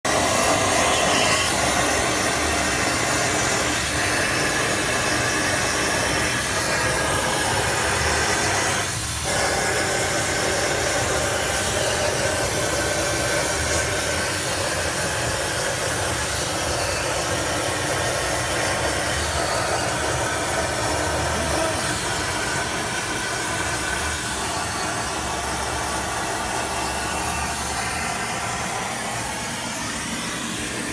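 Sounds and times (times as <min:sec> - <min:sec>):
plasma cutter hissing: 0:00.1 - 0:30.9.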